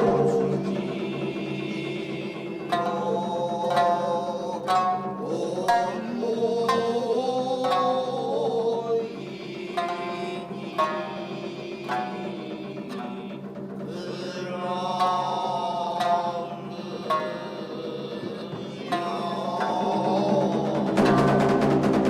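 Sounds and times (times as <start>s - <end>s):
wavering chanted voice: 0.0s - 21.8s
plucked shamisen notes: 0.0s - 22.0s.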